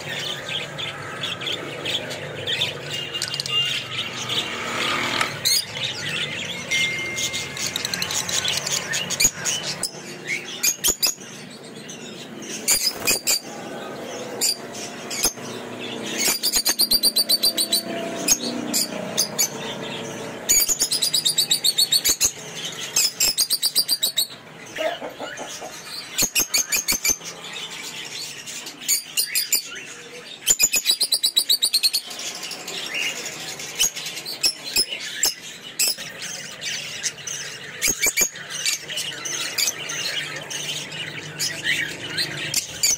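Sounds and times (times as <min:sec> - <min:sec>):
lovebirds chirping: 0:00.0 - 0:42.9.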